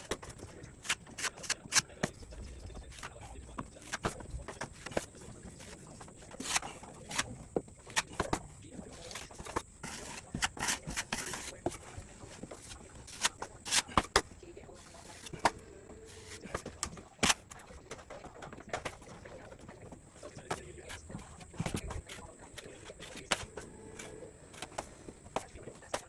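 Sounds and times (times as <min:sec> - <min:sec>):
hand tools scraping and knocking: 0:00.0 - 0:26.0.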